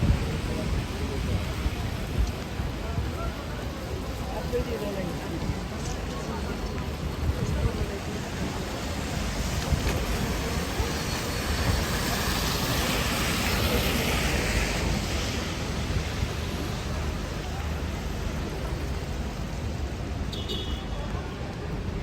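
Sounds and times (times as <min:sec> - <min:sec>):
traffic on wet road: 0:00.0 - 0:22.0.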